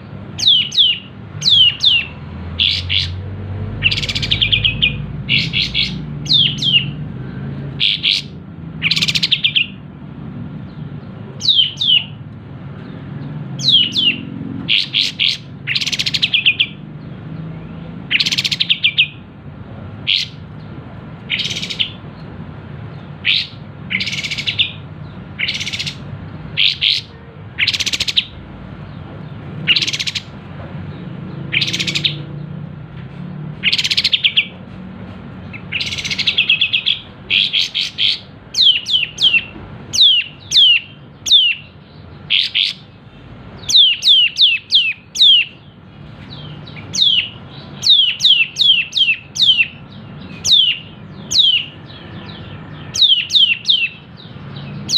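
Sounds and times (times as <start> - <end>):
bulbul chattering calls: 0.3 - 7.0, 7.6 - 9.8, 10.7 - 12.2, 13.6 - 19.3, 20.0 - 22.2, 22.9 - 29.0, 29.6 - 30.4, 31.3 - 32.3, 33.6 - 34.6, 35.4 - 54.9.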